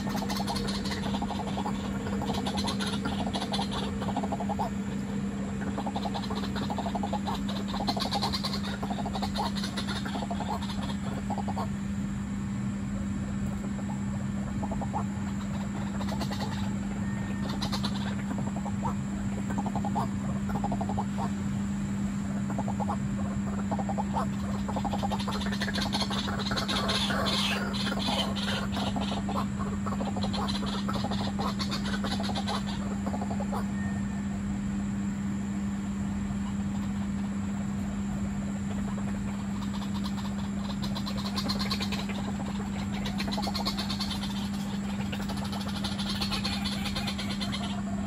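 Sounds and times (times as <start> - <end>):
birds croaking calls: 0.0 - 48.0
steady low hum: 0.0 - 48.0.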